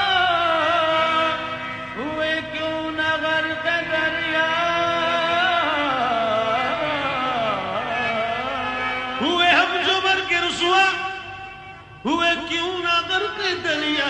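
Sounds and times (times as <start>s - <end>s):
harmonium: 0.0s - 14.0s
man singing: 0.0s - 14.0s.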